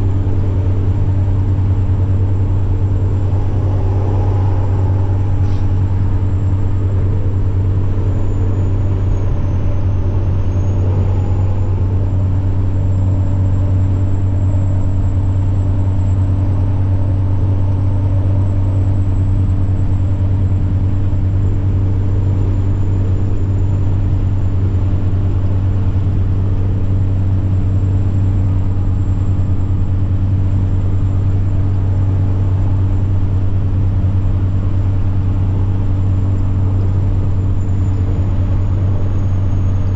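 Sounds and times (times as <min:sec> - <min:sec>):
truck diesel engine drone: 0:00.0 - 0:39.9
turbocharger whine: 0:00.0 - 0:39.9.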